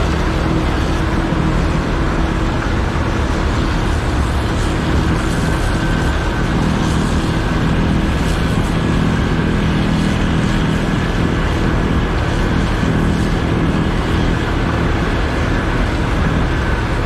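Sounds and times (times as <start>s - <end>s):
diesel machinery drone: 0.0s - 17.0s
thin high whine: 0.0s - 17.0s.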